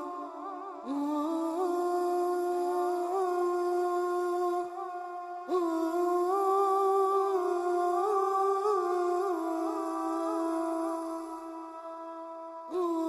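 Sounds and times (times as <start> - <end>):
person humming a slow melody: 0.0 - 13.0.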